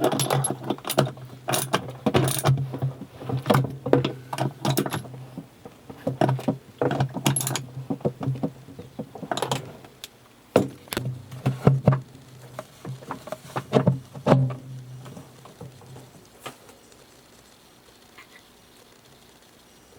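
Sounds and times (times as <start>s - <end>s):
hard objects clattering: 0.0s - 16.1s.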